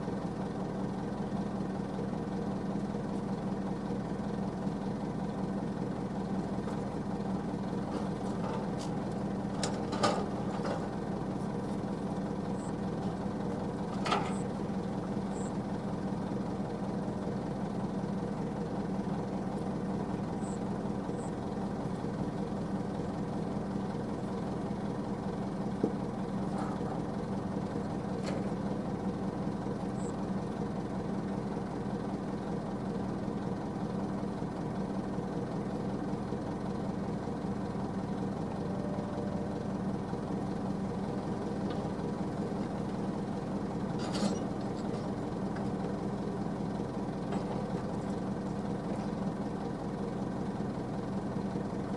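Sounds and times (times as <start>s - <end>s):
heavy diesel engine idling: 0.0s - 51.9s.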